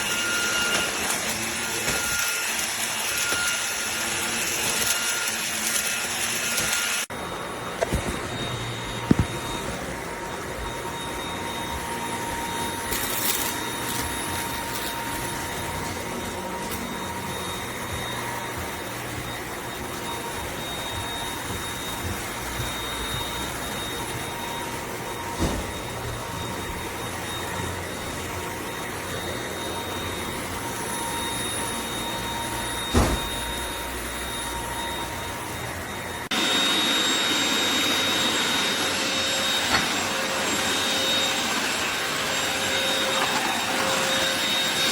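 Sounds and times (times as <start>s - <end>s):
stick vacuum motor whine: 0.0s - 44.9s.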